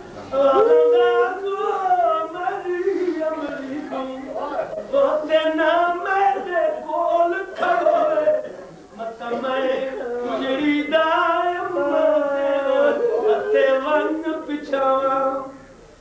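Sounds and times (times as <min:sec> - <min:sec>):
man chanting: 0:00.3 - 0:15.6.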